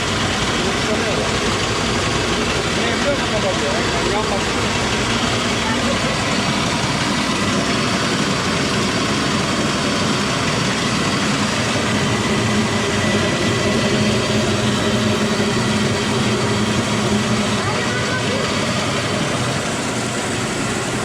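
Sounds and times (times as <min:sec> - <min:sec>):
mill mechanical rumble: 0:00.0 - 0:21.0.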